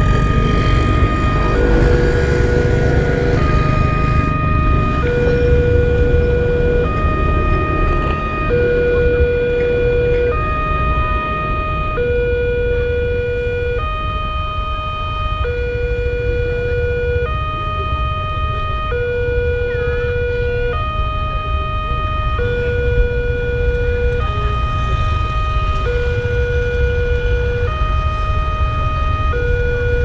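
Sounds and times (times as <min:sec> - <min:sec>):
two-tone crossing alarm: 0:00.0 - 0:30.0.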